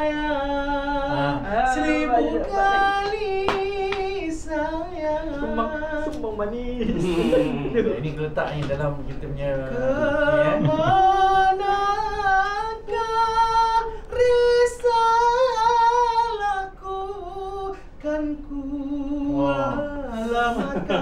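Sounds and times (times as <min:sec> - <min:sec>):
person singing unaccompanied: 0:00.0 - 0:08.0, 0:09.5 - 0:21.0.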